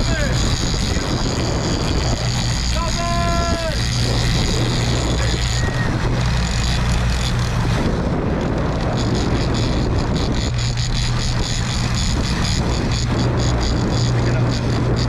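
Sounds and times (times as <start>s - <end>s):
boat engine humming: 0.0s - 15.0s
wind noise on microphone: 0.0s - 15.0s.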